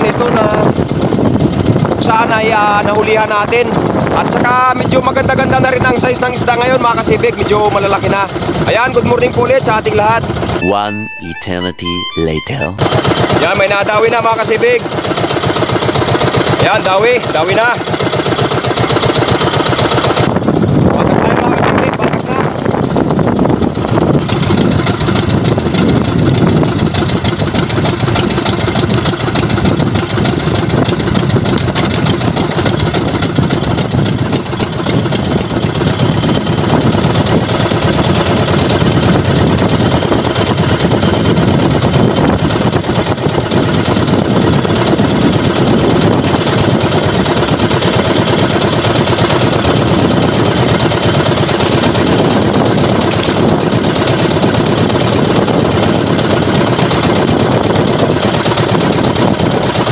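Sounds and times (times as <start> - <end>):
boat engine idling: 0.0 - 11.6, 12.5 - 59.9.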